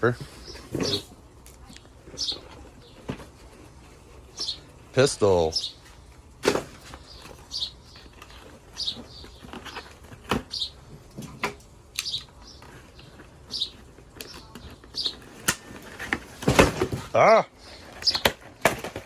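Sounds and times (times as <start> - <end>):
bird chirping: 0.0 - 6.1, 6.7 - 10.9, 11.9 - 16.0, 17.3 - 18.3.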